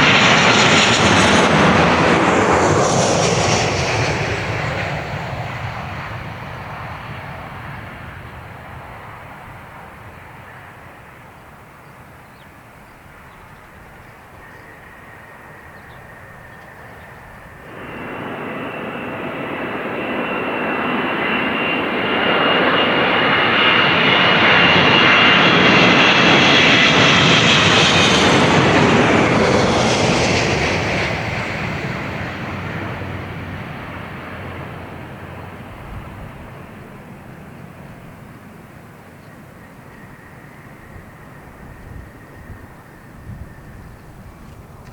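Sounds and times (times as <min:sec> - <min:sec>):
jet airliner flying overhead: 0:00.0 - 0:44.9.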